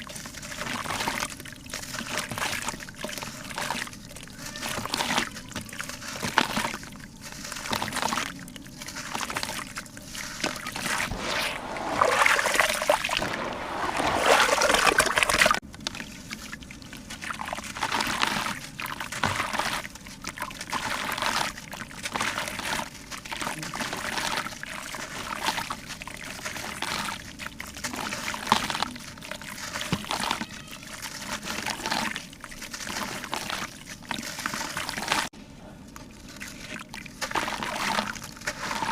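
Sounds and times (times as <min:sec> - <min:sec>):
water splashing and trickling: 0:00.0 - 0:35.4, 0:36.0 - 0:38.9.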